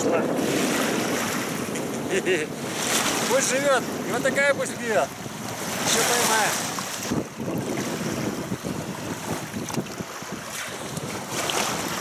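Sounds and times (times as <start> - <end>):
river water lapping and splashing: 0.0 - 12.0
wind buffeting microphone: 0.0 - 12.0.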